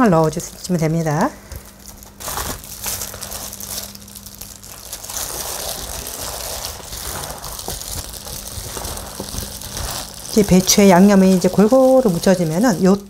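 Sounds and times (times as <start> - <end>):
cabbage rustling as tossed by hand: 1.6 - 13.0.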